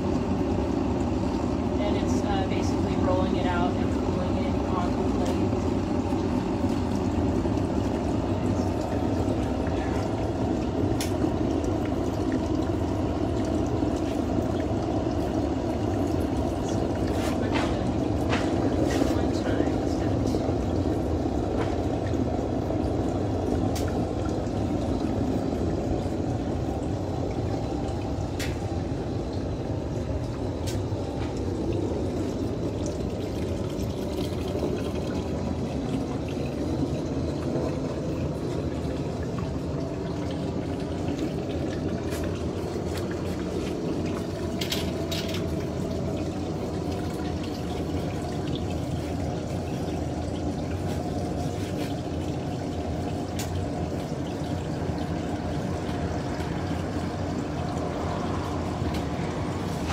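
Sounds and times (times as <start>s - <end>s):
gas burner rushing: 0.0s - 59.9s.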